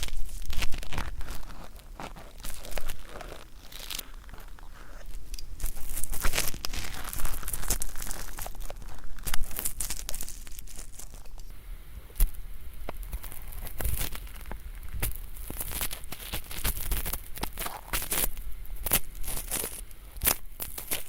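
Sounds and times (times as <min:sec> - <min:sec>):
ear pick scraping microphone: 0:00.0 - 0:21.0.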